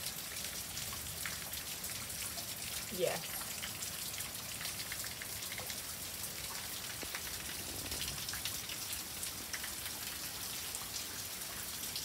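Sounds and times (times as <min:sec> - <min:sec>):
raindrops tapping on surfaces: 0:00.0 - 0:12.0
steady rain falling: 0:00.0 - 0:12.0.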